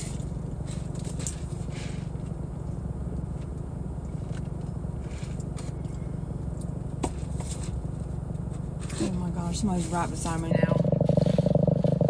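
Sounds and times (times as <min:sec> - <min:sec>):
air conditioning running: 0:00.0 - 0:12.0
car idling rumble: 0:00.0 - 0:12.0.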